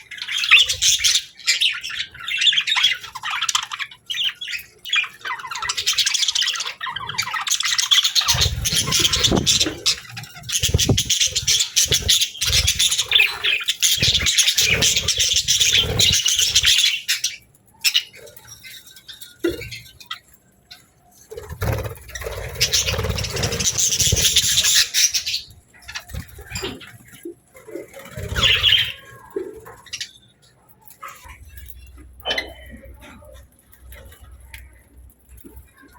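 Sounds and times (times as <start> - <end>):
small birds chirping and chattering: 0.0 - 35.9.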